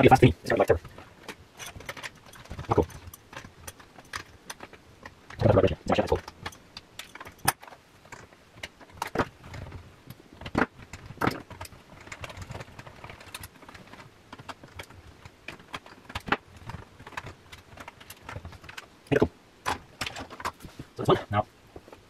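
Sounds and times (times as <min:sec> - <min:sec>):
tools clicking and scraping: 0:00.5 - 0:20.9.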